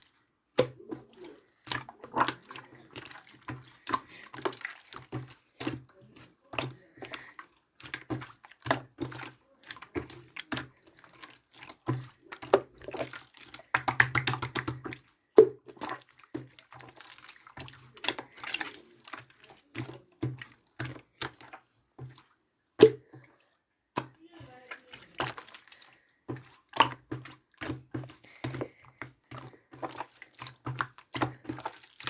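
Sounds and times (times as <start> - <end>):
slime squelching and popping: 0.1 - 22.2, 22.8 - 32.0.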